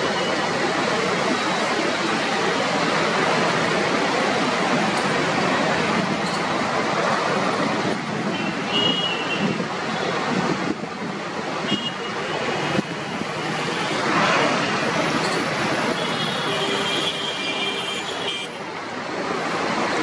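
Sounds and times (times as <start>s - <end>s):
coach engine and tyres rumbling: 0.0s - 20.0s.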